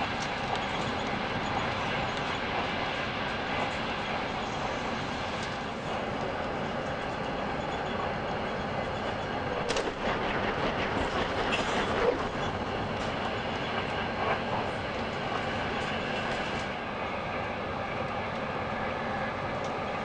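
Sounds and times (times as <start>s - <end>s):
passing train rush: 0.0s - 20.0s
train rumble inside passenger car: 0.0s - 20.0s.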